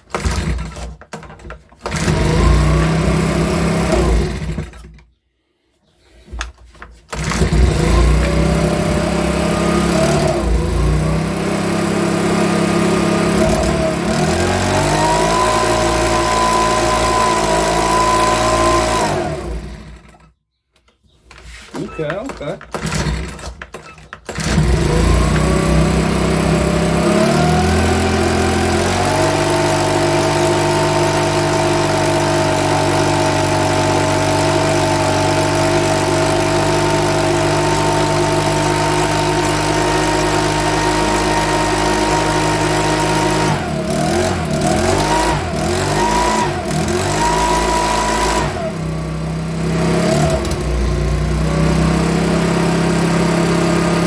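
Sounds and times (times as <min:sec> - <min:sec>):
leaf blower engine revving: 0:00.0 - 0:00.8, 0:01.8 - 0:04.9, 0:07.1 - 0:20.2, 0:21.8 - 0:54.0.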